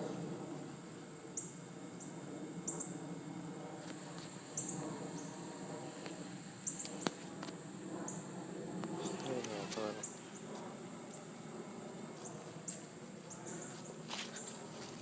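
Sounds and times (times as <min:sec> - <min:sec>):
high-pitched insect buzz: 0:00.0 - 0:15.0.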